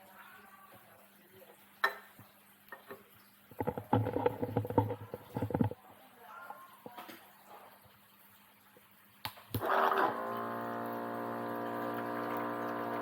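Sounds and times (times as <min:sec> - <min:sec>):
water pouring into a bowl: 0:00.0 - 0:13.0.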